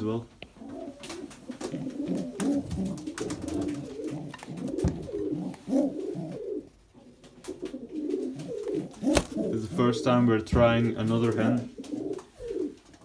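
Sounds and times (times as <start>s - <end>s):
pigeons cooing: 0.5s - 10.4s, 11.1s - 13.0s.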